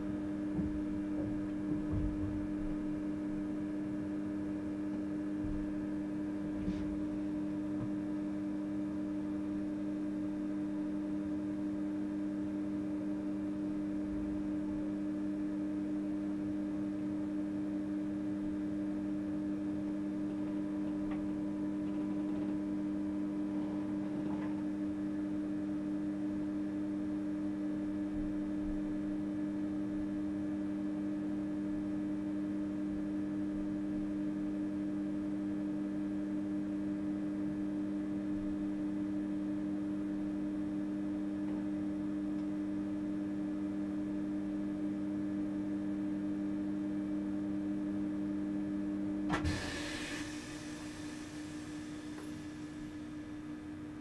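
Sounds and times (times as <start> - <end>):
electrical hum in railcar cab: 0.0 - 54.0.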